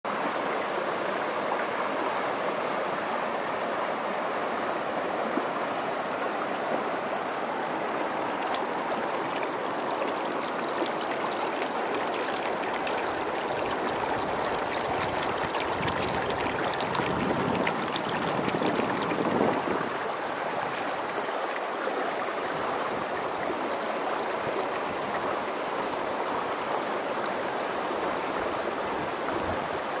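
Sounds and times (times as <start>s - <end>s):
stream rushing over rocks: 0.1s - 30.0s.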